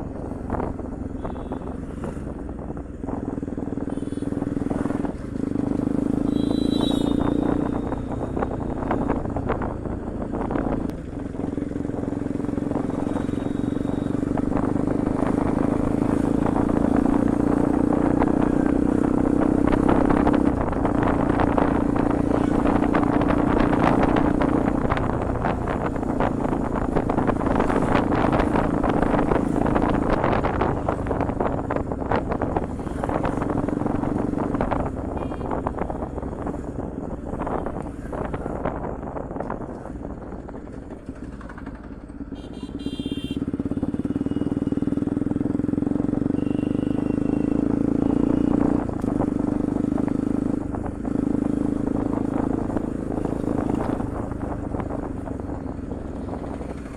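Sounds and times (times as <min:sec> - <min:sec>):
motorcycle engine running: 0:00.0 - 0:56.9
wind and road noise: 0:00.0 - 0:56.9.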